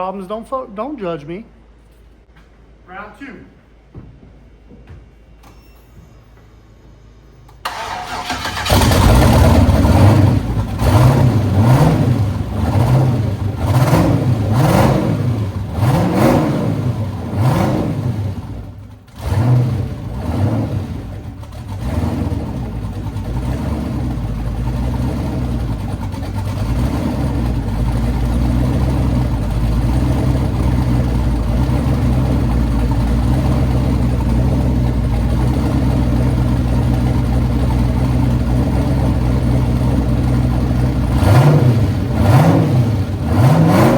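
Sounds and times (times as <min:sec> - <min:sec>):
car engine cranking: 0:07.6 - 0:43.9
car engine idling: 0:07.6 - 0:43.9
car engine revving: 0:07.7 - 0:43.9.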